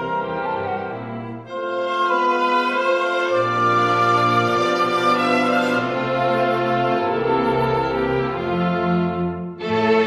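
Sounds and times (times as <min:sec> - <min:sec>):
slow orchestral strings: 0:00.0 - 0:10.0.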